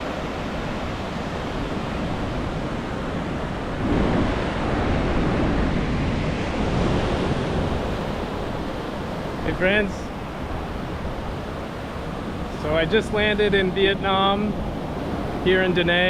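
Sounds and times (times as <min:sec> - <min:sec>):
ocean surf washing onto beach: 0:00.0 - 0:16.0
wind rumbling on microphone: 0:00.0 - 0:16.0.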